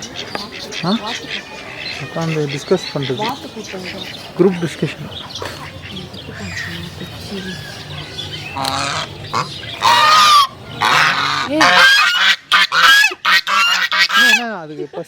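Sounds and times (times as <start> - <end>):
geese honking: 0.0 - 14.6.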